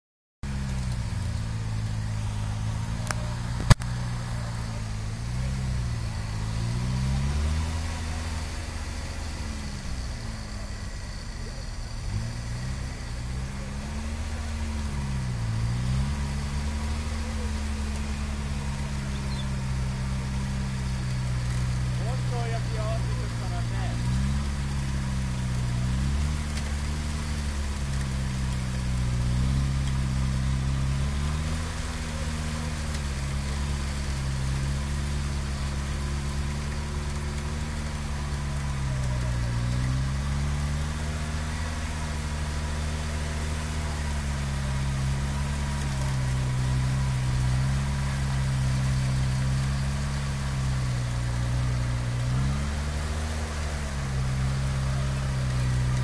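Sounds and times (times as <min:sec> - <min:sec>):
car engine running at low revs: 0:00.4 - 0:56.0.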